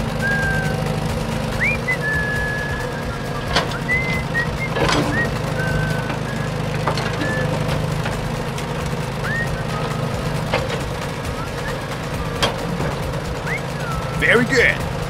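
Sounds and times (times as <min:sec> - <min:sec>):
high whistled chirps: 0:00.0 - 0:07.7, 0:09.1 - 0:14.9
sharp clicks: 0:00.0 - 0:14.4
low engine-like hum: 0:00.0 - 0:15.0.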